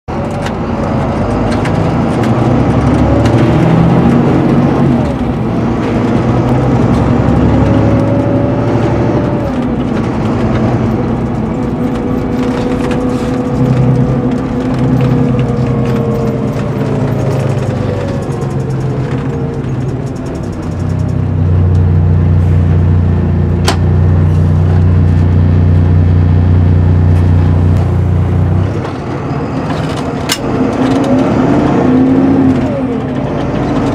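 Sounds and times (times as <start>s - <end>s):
diesel coach engine from inside: 0.1s - 33.9s.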